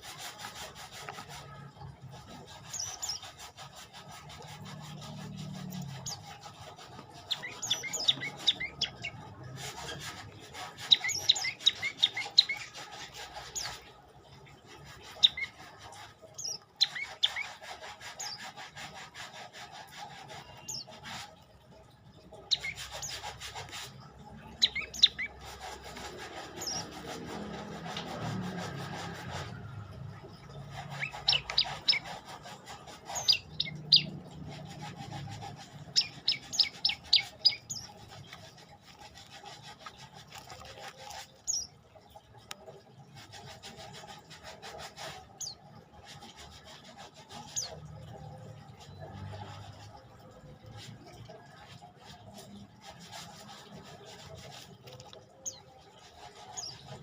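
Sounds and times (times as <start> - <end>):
scratchy rubbing noise: 0.0 - 57.0.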